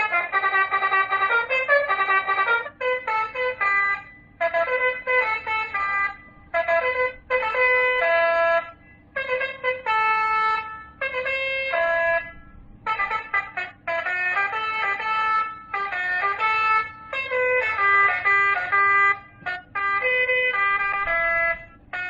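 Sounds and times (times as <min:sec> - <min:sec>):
horn playing a melody: 0:00.0 - 0:22.0.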